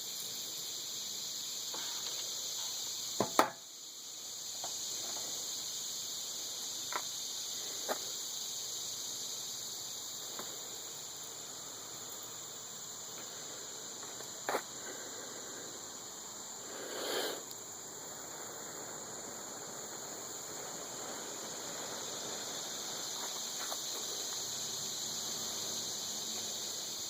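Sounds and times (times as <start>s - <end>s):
crickets and insects chirping: 0.0s - 27.0s.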